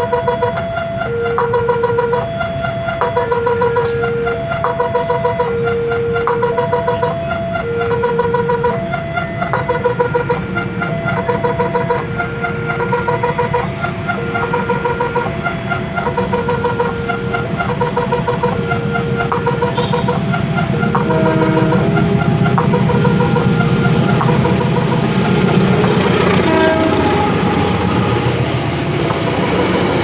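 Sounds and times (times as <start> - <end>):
engine and traffic rumble: 0.0 - 30.0
level crossing warning beeps: 0.0 - 30.0.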